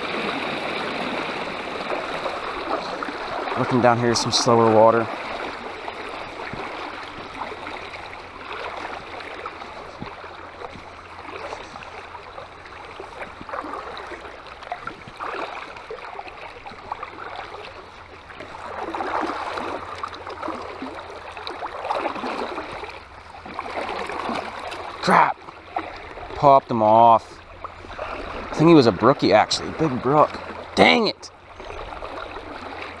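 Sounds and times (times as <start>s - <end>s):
creek water flowing over riffle: 0.0s - 33.0s.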